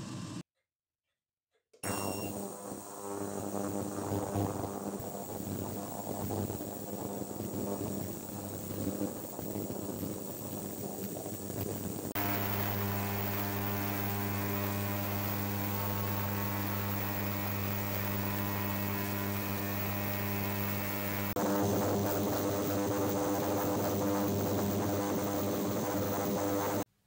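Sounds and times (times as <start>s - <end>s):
ultrasonic cleaner hum and buzz: 1.8s - 26.9s.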